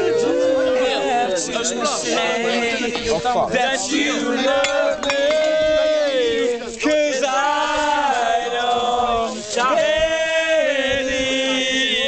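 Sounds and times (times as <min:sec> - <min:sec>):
men singing in chorus: 0:00.0 - 0:12.0.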